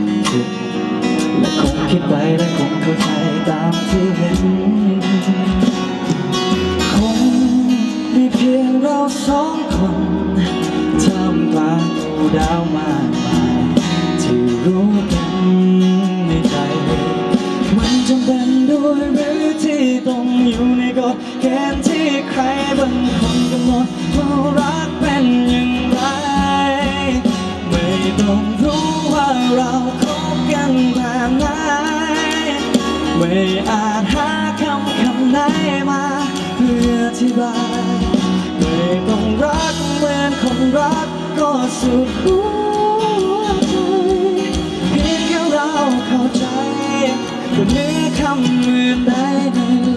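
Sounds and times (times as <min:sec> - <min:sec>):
instrumental backing: 0:00.0 - 0:49.9
man singing ballad through pa: 0:00.0 - 0:49.9.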